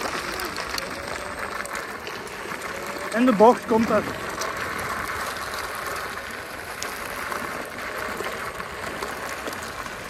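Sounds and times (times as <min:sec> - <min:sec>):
tyres rolling over gravel: 0:00.0 - 0:10.0.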